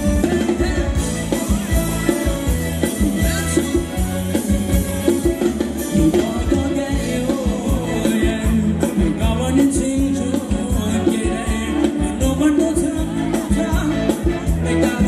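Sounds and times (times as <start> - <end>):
bass: 0.0 - 15.0
live band dance music: 0.0 - 15.0
steady drum beat: 0.0 - 15.0.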